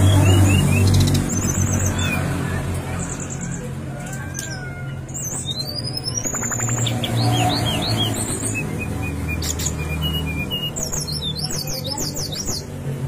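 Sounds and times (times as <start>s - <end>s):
bird singing: 0.0s - 12.8s.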